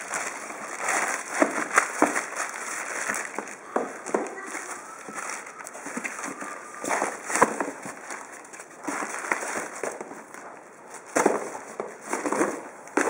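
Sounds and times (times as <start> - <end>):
cardboard rustling: 0.0 - 13.0
plastic wrap crinkling: 0.0 - 13.0.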